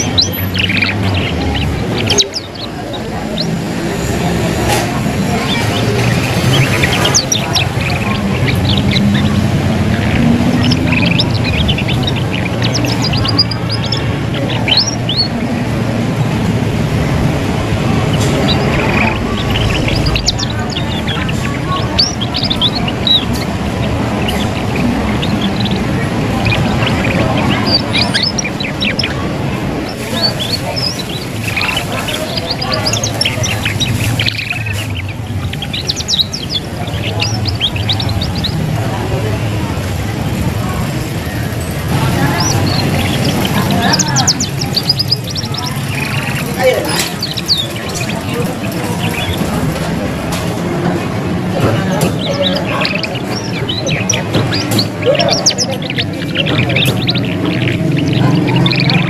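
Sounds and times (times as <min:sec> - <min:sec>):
young canary twittering: 0:00.0 - 0:59.0.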